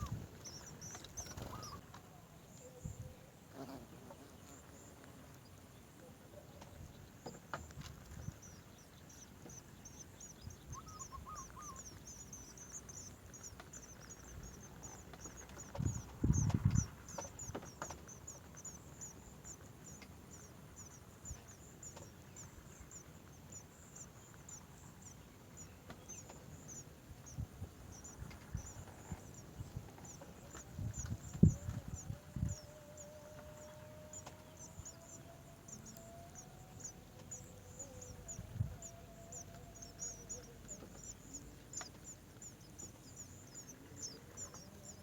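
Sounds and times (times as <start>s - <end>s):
bird chirping: 0.0s - 45.0s.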